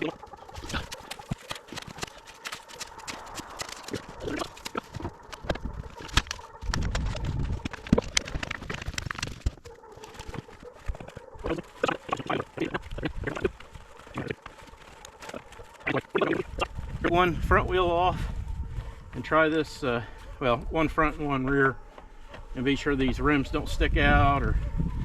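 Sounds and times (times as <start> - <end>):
footsteps crunching in snow: 0.0 - 25.0.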